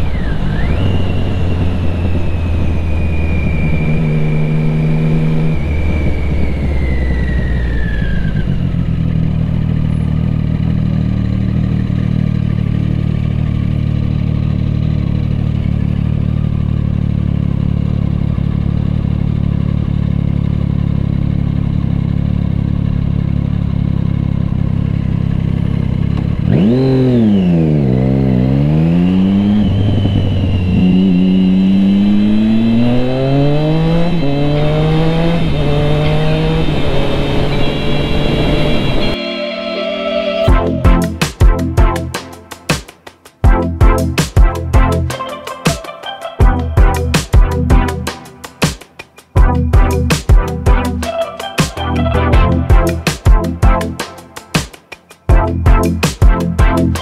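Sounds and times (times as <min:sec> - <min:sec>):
motorcycle engine idling and revving: 0:00.0 - 0:39.2, 0:40.5 - 0:45.5, 0:46.4 - 0:57.0.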